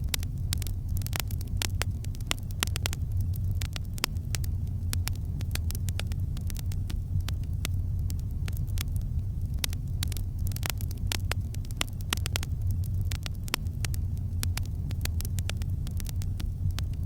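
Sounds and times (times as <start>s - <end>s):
campfire crackling: 0.0s - 17.0s
low rumble: 0.0s - 17.0s.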